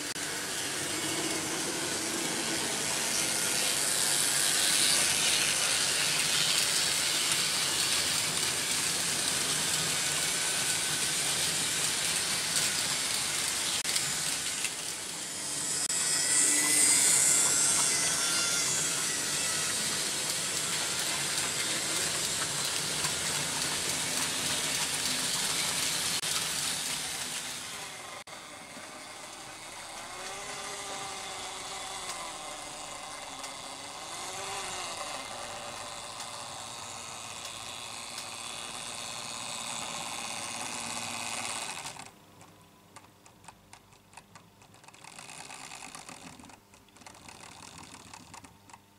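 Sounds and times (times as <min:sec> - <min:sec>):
locomotive motor whine: 0:00.0 - 0:42.1
model train wheels rattling on rails: 0:00.0 - 0:42.1, 0:44.1 - 0:48.8.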